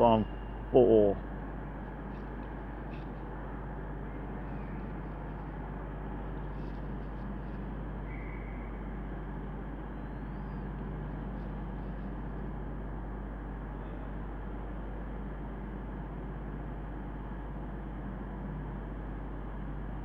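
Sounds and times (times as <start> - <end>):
diesel train engines idling: 0.0 - 20.0.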